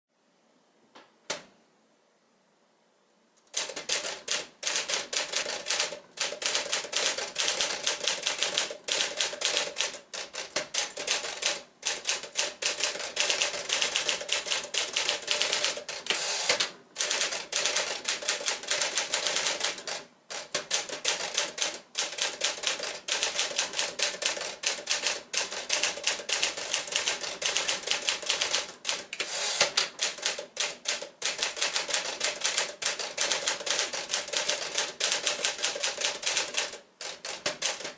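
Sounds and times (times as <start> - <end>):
manual typewriter typing: 3.4 - 37.9.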